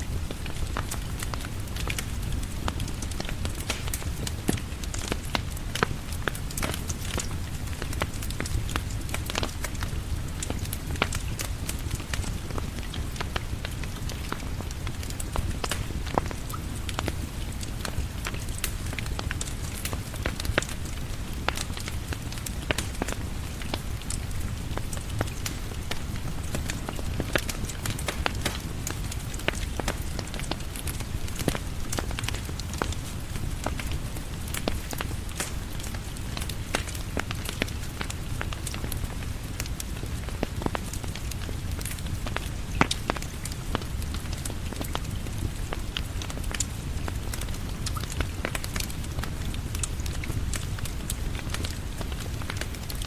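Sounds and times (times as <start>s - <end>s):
steady rain: 0.0s - 53.0s
wood fire crackling: 0.0s - 53.0s.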